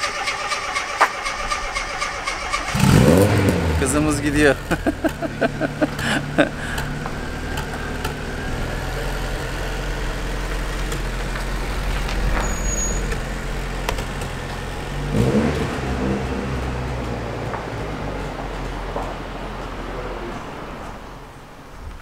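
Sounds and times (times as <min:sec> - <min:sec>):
car engine idling and revving: 0:00.0 - 0:21.8.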